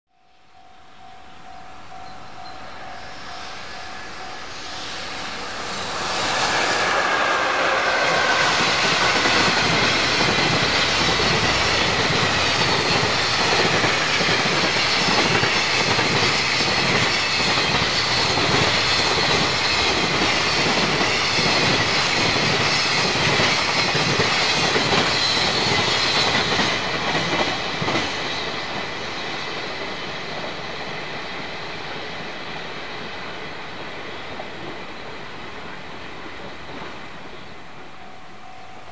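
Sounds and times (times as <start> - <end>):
freight train passing: 0.3 - 38.9
rhythmic wheel clatter on rail joints: 1.7 - 38.9.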